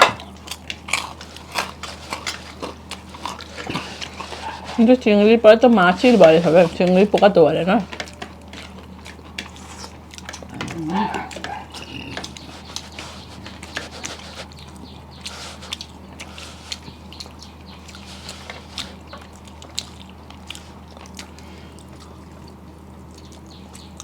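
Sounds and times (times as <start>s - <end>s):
chewing clicks and smacks: 0.0s - 5.2s, 6.0s - 24.0s
steady low hum: 0.0s - 24.0s.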